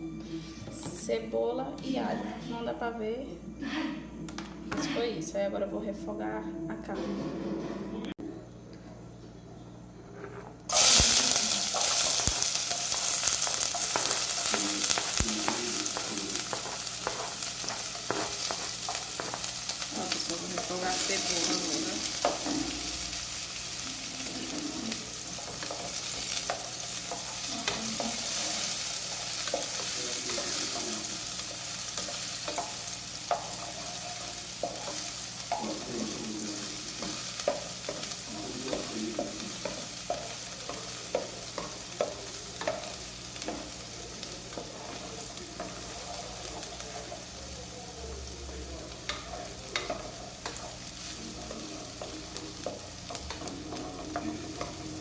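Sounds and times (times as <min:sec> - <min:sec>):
onion sizzling in a pan: 0:10.7 - 0:55.0.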